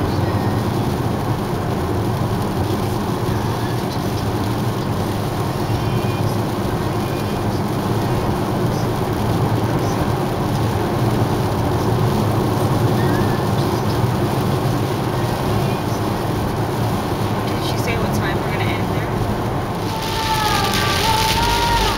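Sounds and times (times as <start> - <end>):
low engine hum: 0.0 - 21.9
tyres on wet pavement: 0.0 - 21.9.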